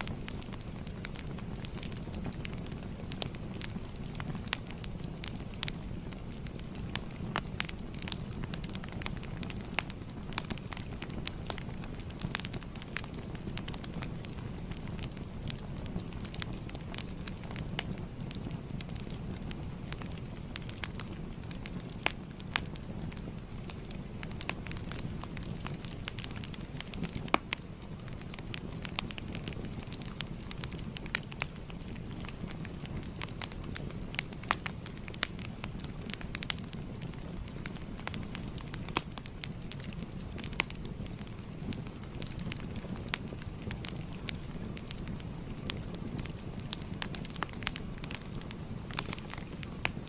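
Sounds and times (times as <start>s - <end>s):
fire crackling and popping: 0.0s - 50.0s
low rumble of flames: 0.0s - 50.0s.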